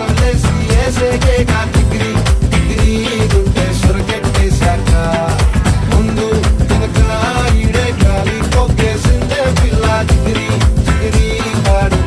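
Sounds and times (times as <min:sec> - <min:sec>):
dance music with beat: 0:00.0 - 0:12.0.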